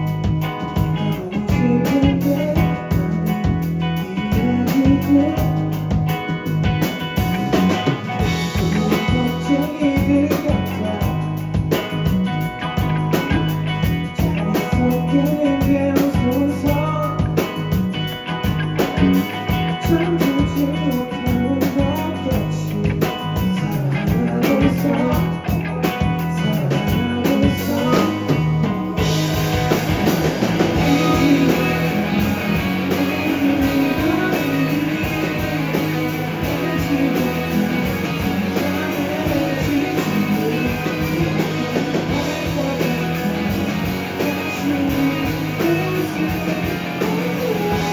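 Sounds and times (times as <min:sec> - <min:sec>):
live rock band playing: 0:00.0 - 0:47.9.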